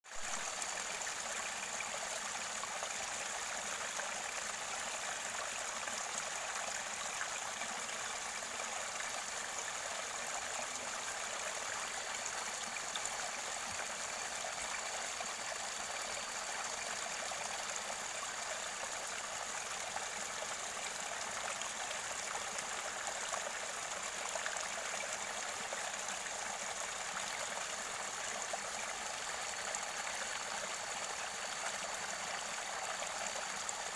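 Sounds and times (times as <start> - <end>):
river water flowing and gurgling: 0.2 - 33.9.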